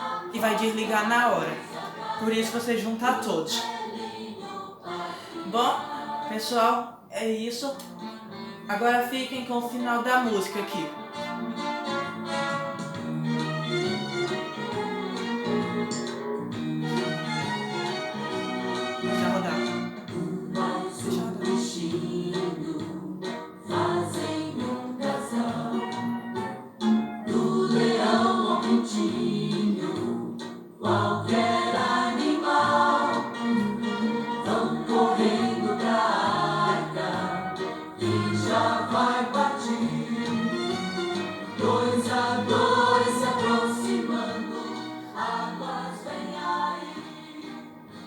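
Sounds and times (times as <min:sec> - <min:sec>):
choir singing gospel song: 0:00.0 - 0:06.9, 0:11.0 - 0:16.1, 0:16.7 - 0:48.0.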